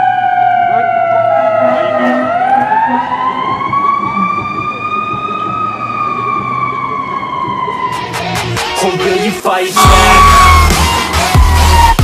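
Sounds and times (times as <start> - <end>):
fire engine siren wailing: 0.0 - 9.0, 9.8 - 12.0.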